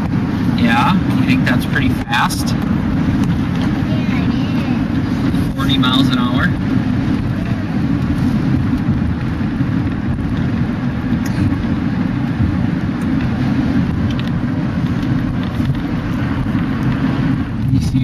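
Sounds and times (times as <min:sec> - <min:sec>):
truck engine and road rumble: 0:00.0 - 0:18.0.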